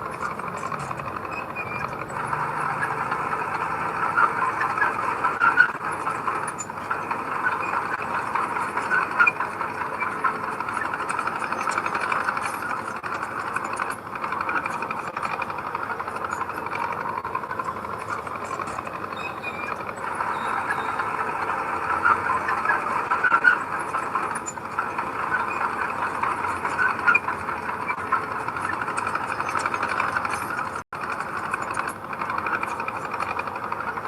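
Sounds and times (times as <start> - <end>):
earthmoving machine engine: 0.0 - 34.0
small clanks and squeaks: 0.0 - 34.0.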